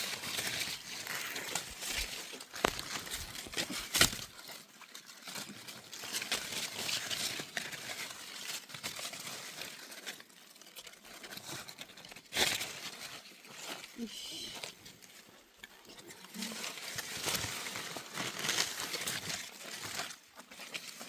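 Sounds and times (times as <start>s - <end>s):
rustling and crinkling: 0.0s - 21.0s.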